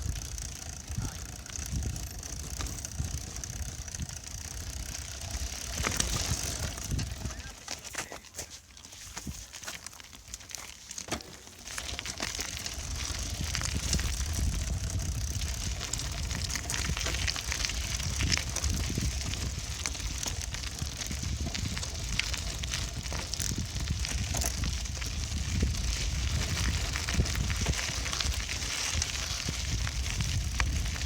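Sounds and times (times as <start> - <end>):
wind rumbling on microphone: 0.0 - 7.6, 11.8 - 31.0
bicycle tyres rolling: 0.0 - 31.0.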